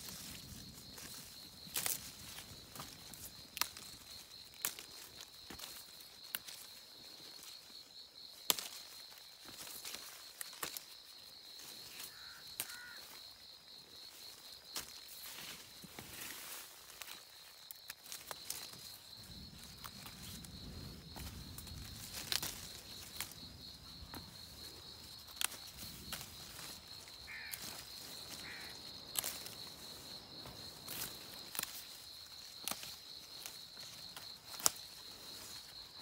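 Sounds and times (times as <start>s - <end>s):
leaves rustling and branch clicks: 0.0s - 36.0s.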